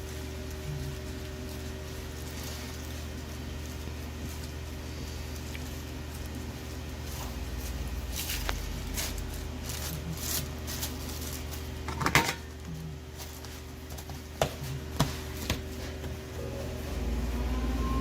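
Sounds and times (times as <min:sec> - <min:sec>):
steady low hum: 0:00.0 - 0:11.9, 0:14.7 - 0:18.0.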